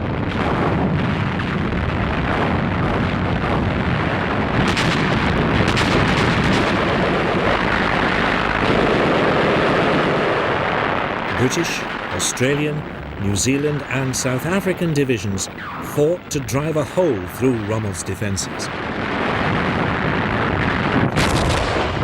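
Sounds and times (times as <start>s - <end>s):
gunfire and explosions: 0.0s - 22.0s
sharp cracks: 0.0s - 22.0s.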